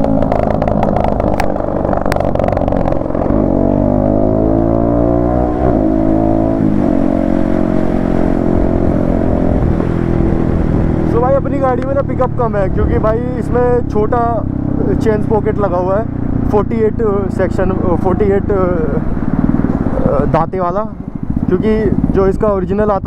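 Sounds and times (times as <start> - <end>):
motorcycle engine accelerating: 0.0 - 22.7.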